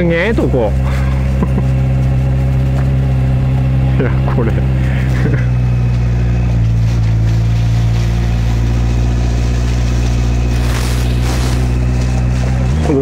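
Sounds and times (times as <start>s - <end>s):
motorcycle engine running slowly: 0.0s - 13.0s.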